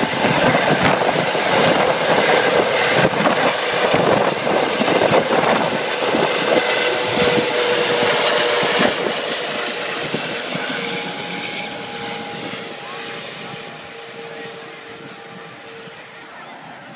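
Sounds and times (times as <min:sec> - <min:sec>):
helicopter rotor beat: 0:00.0 - 0:16.9
turbine whine: 0:00.0 - 0:16.9.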